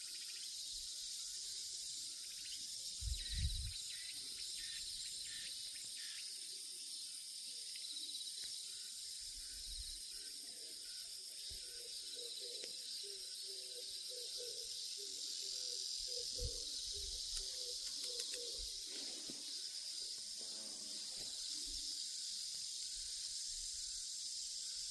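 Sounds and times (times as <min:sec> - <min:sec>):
insects trilling in chorus: 0:00.0 - 0:24.9.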